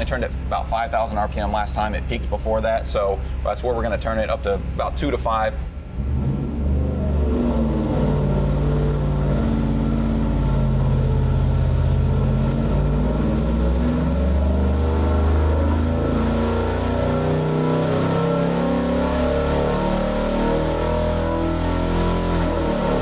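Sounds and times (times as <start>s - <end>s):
engine running under load: 0.0s - 23.0s.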